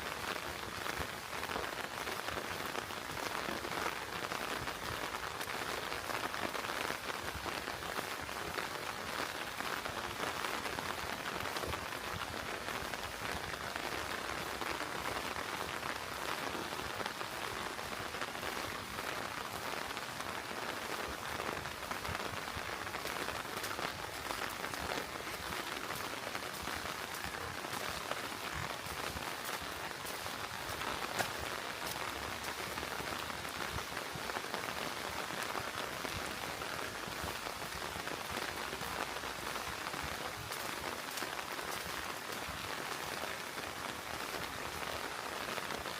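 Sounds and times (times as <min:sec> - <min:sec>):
raindrops hitting close by: 0:00.0 - 0:45.9
steady rain falling: 0:00.0 - 0:45.9.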